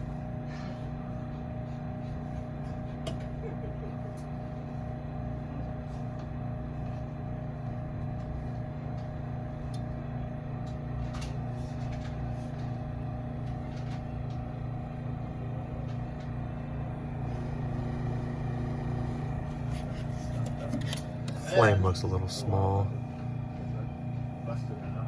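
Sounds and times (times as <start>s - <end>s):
furnace motor humming: 0.0s - 25.0s.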